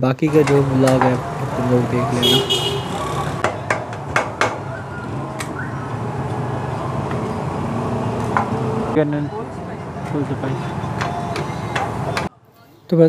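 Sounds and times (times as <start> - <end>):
background noise: 0.0 - 13.0.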